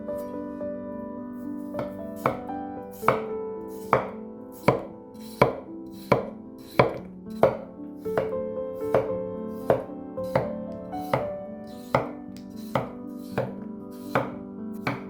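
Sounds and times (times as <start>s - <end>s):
soft background music: 0.0s - 15.0s
knife chopping on cutting board: 1.8s - 15.0s.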